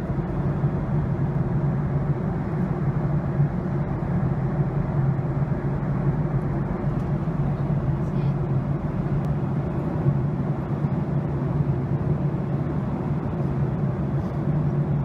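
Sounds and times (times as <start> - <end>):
airliner cabin hum: 0.0 - 15.0
rushing hiss of engines and airflow: 0.0 - 15.0.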